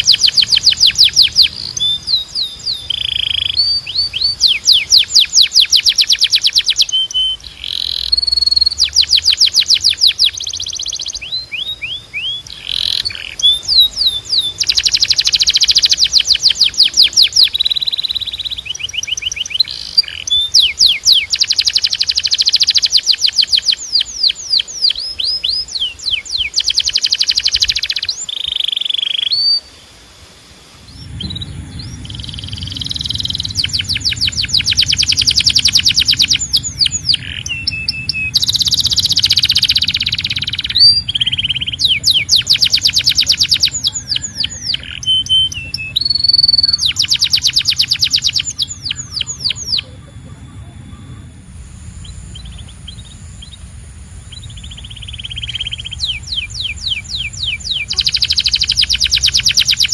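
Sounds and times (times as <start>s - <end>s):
canary singing trills: 0.0s - 29.8s, 30.8s - 59.9s.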